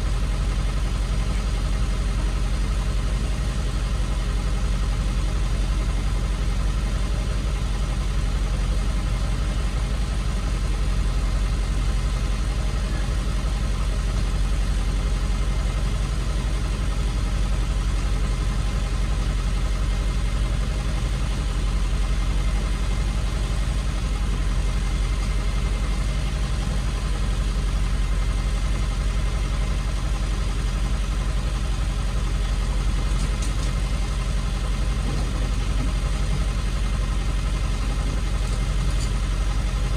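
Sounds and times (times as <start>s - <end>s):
tow truck engine idling: 0.0s - 39.9s.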